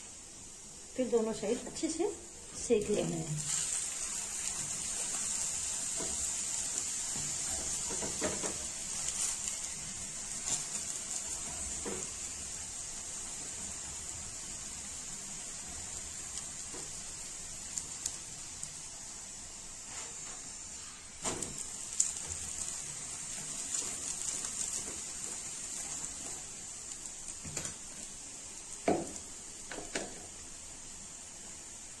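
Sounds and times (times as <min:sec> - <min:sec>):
ghee sizzling on a griddle: 0:00.0 - 0:32.0.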